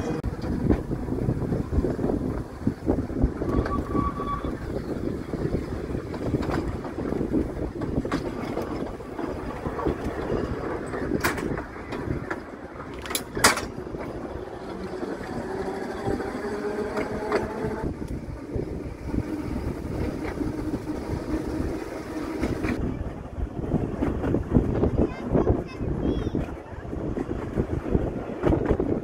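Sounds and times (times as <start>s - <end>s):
clacks over rail joints: 0.0s - 23.2s, 23.8s - 29.0s
tram wheels rumbling on rails: 0.0s - 29.0s.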